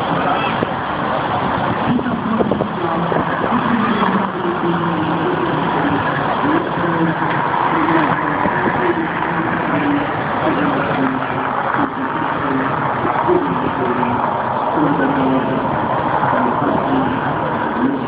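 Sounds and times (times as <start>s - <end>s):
cars driving past: 0.0s - 18.0s
crowd voices: 0.0s - 18.0s.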